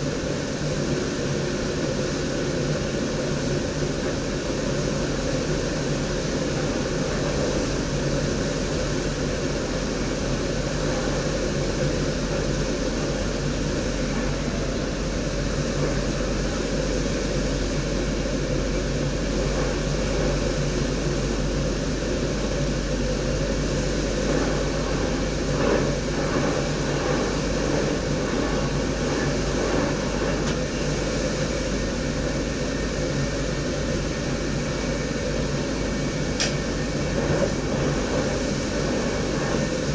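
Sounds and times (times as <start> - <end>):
train cab running noise: 0.0 - 39.9.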